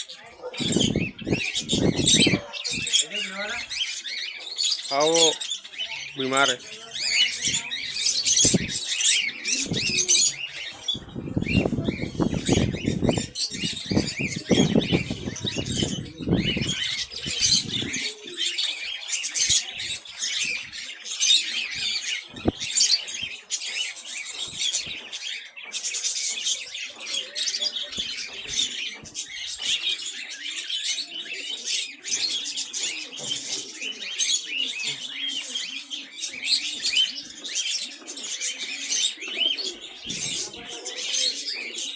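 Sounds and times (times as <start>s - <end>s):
caged birds chirping: 0.0s - 41.9s.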